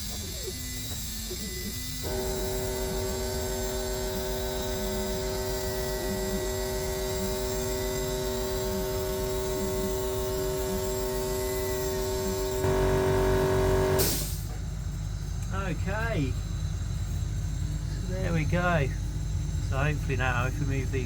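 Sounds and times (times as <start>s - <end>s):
laser cutter machine drone: 0.0s - 14.5s, 15.6s - 21.0s.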